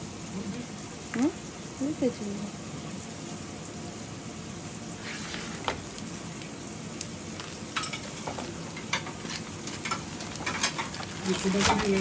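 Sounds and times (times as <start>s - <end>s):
fish sizzling: 0.0s - 12.0s.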